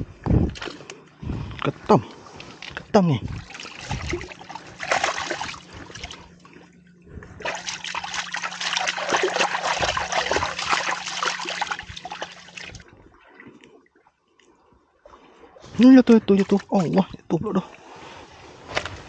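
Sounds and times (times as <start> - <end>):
water splashing and trickling: 0.4 - 17.8.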